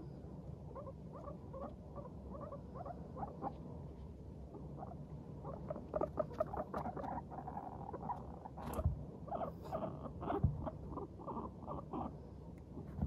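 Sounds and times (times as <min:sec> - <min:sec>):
guinea pigs chutting: 0:00.0 - 0:13.0.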